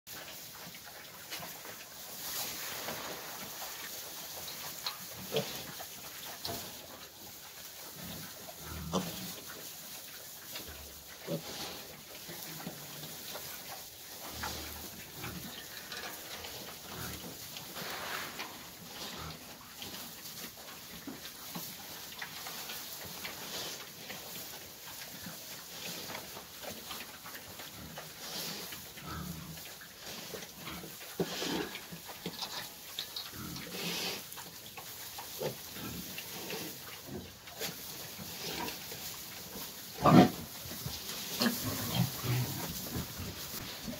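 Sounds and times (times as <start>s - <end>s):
rustling in straw: 0.1s - 43.9s.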